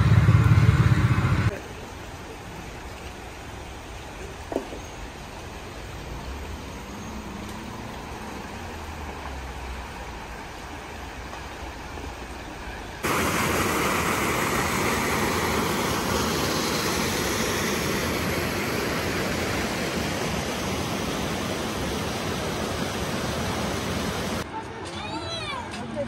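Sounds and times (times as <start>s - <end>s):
water rushing over rocks: 1.5s - 24.4s.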